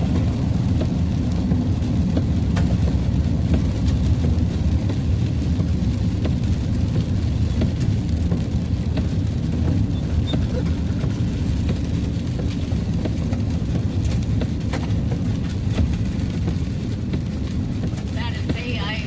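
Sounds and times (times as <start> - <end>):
rain tapping on vehicle: 0.0 - 19.0
vehicle road and engine drone: 0.0 - 19.0.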